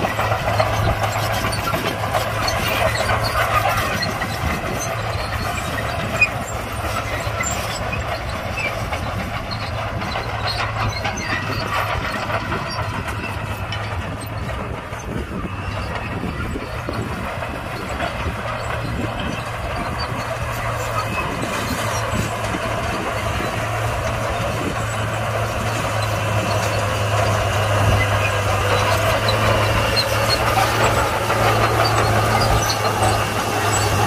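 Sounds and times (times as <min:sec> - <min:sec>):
bulldozer diesel engine running: 0:00.0 - 0:34.0
steel tracks rattling and clanking: 0:00.0 - 0:34.0.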